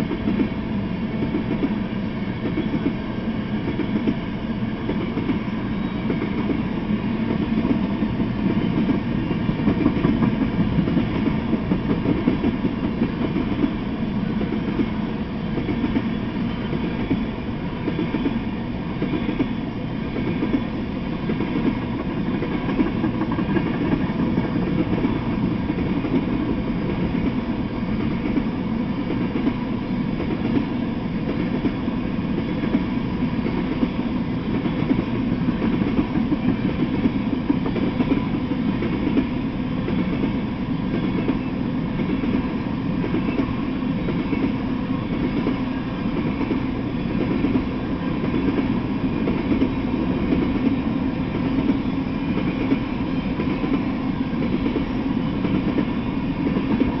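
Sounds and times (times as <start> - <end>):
train wheels on rail: 0.0 - 57.0.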